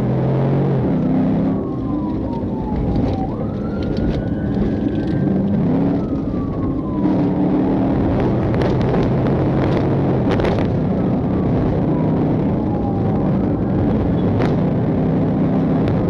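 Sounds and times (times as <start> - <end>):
loud road noise: 0.0 - 16.0
police siren wailing: 0.0 - 16.0
vehicle engine under load: 0.0 - 16.0.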